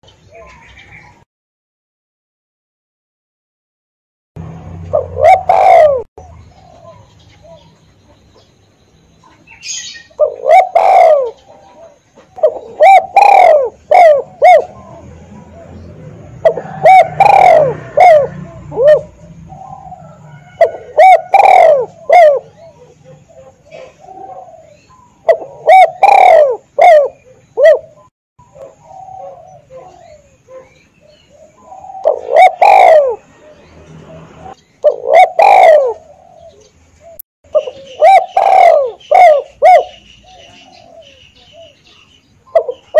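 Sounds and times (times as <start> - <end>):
dove cooing: 4.8 - 7.8, 9.3 - 42.9.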